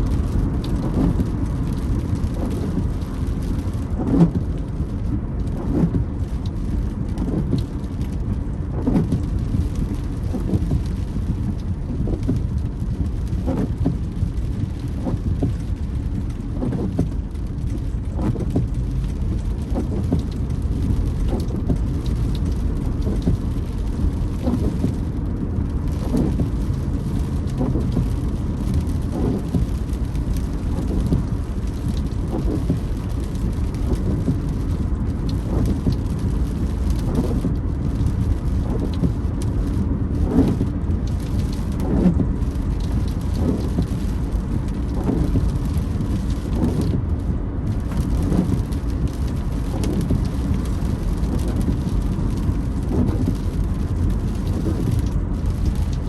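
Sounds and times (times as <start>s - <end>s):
rain on car: 0.0s - 56.0s
road rumble: 0.0s - 56.0s
windscreen wipers creaking: 0.0s - 56.0s.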